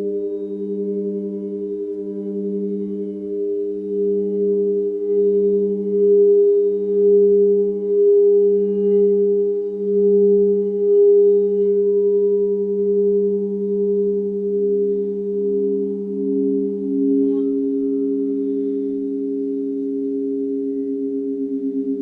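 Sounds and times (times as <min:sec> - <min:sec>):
higher wavering bowl tone: 0:00.0 - 0:22.0
singing bowls ringing: 0:00.0 - 0:22.0.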